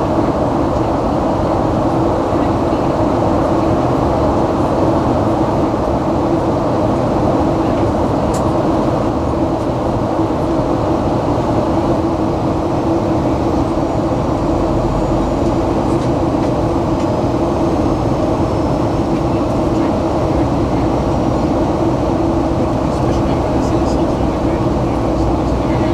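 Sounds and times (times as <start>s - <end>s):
constant hum: 0.0s - 25.9s
jet engines droning: 0.0s - 25.9s.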